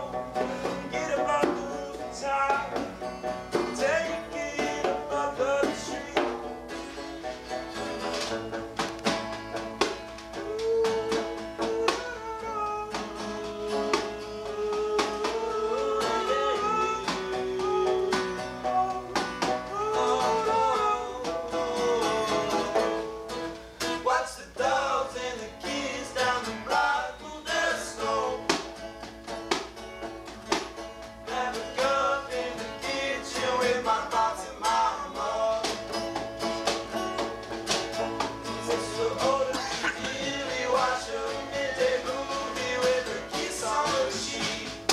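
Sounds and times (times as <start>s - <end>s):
acoustic guitar: 0.0s - 44.9s
banjo: 0.0s - 44.9s
hand-played snare drum: 0.0s - 44.9s.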